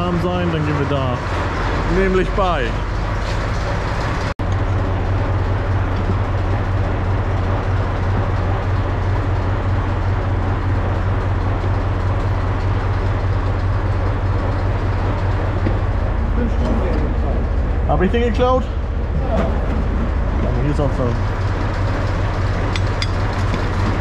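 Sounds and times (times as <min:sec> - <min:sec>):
tractor diesel engine drone: 0:00.0 - 0:24.0.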